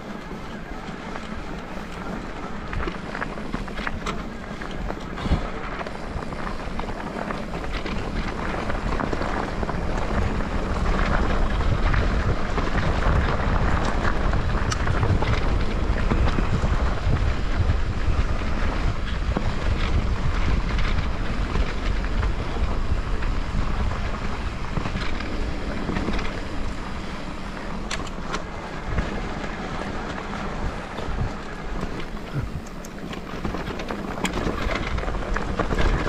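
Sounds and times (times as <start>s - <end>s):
bike clicks and rattles: 0.0s - 36.0s
bike tyres rumbling over dirt: 0.0s - 36.0s
wind buffeting microphone: 0.0s - 36.0s.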